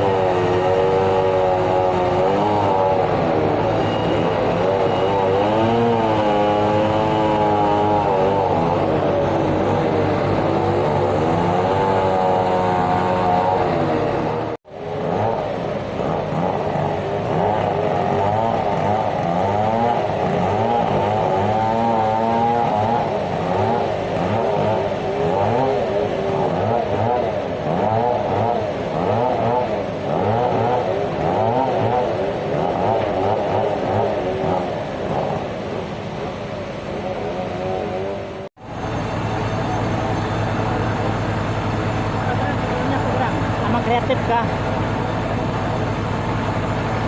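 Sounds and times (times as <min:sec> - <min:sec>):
band saw and engine running: 0:00.0 - 0:37.7, 0:38.6 - 0:47.0.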